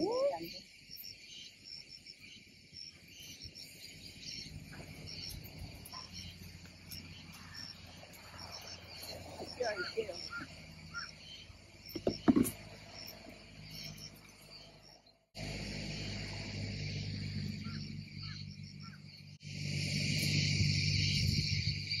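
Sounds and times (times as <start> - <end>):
insects chirping: 0.0 - 22.0
steady low hum: 3.0 - 22.0.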